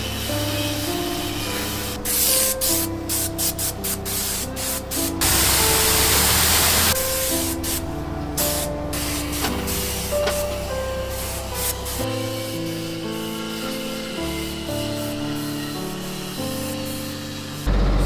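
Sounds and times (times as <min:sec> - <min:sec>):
background music: 0:00.0 - 0:18.0
spray hissing in bursts: 0:00.0 - 0:18.0.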